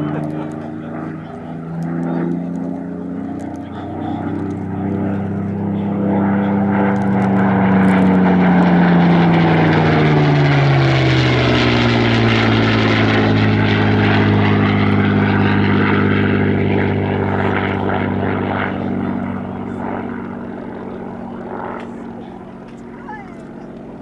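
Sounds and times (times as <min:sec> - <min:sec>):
propeller aircraft engine flypast: 0:00.0 - 0:24.0.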